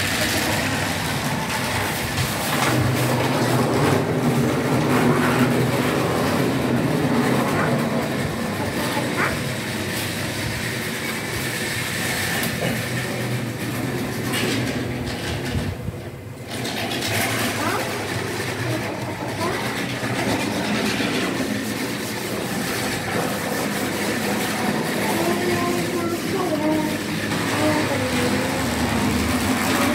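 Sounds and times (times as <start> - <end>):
model train motor hum: 0.0 - 29.9
model train wheel rumble: 0.0 - 29.9.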